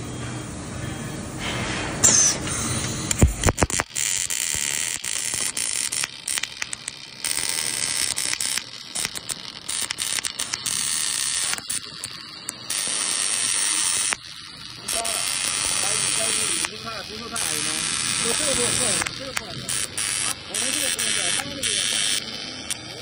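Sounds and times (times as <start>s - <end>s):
welding arc crackling and buzzing: 1.4s - 23.0s.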